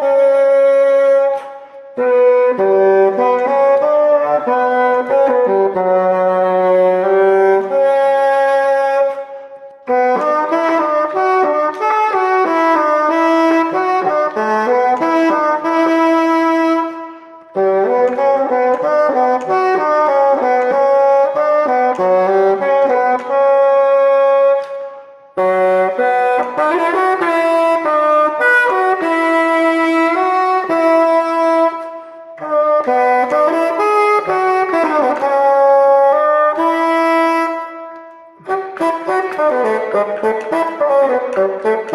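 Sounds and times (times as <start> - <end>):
solo bassoon melody: 0.0 - 41.9.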